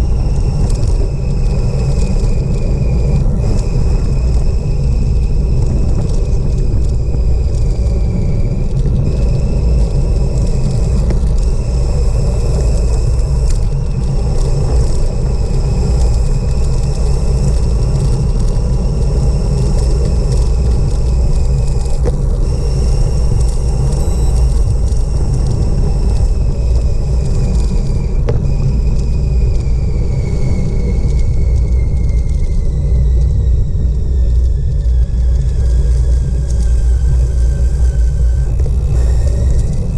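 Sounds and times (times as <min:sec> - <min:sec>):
thin high whistle: 0:00.0 - 0:39.9
wind rush on microphone: 0:00.0 - 0:39.9.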